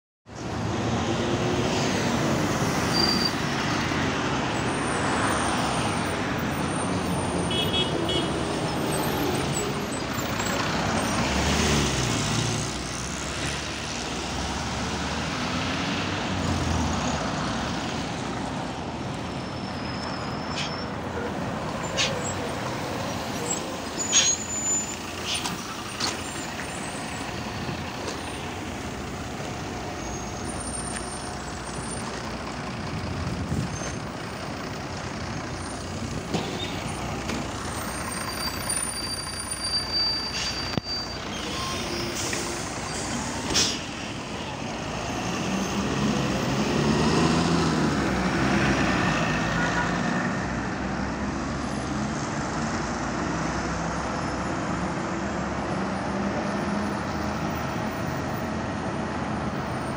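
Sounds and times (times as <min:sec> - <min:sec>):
bus engine: 0:00.2 - 0:59.9.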